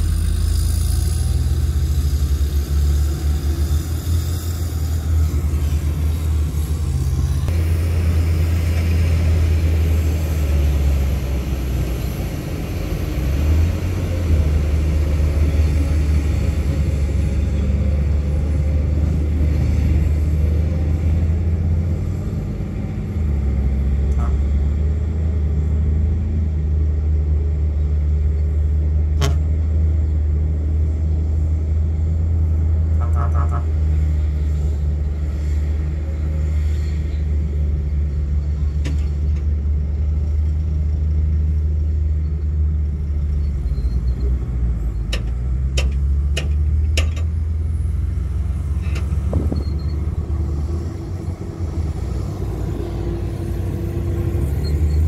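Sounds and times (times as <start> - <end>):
bulldozer engines rumbling: 0.0 - 55.0.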